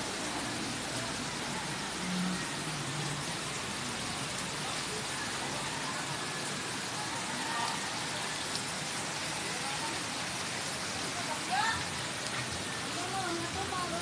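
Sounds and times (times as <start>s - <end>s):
rain falling on water: 0.0s - 14.0s.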